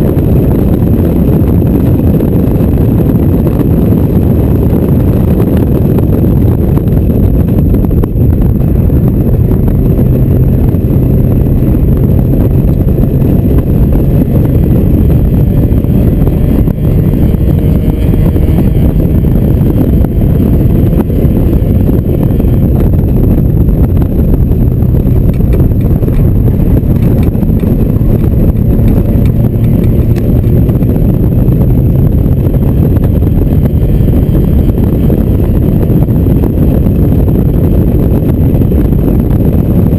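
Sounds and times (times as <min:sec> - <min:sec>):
car engine running hard: 0:00.0 - 0:39.9
tyre and wind rush: 0:00.0 - 0:39.9.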